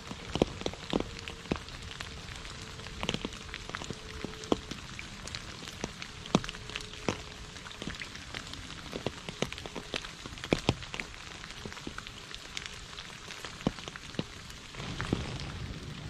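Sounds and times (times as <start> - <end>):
rain pattering on leaves: 0.0 - 16.0.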